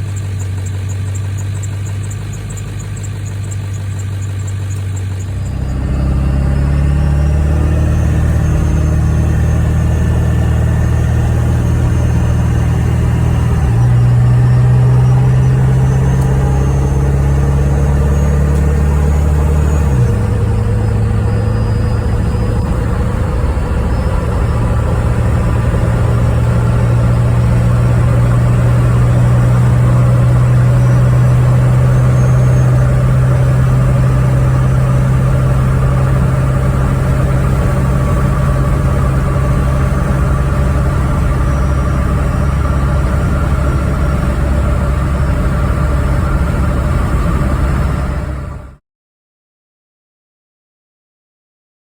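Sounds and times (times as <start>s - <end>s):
diesel engine running: 0.0s - 48.8s.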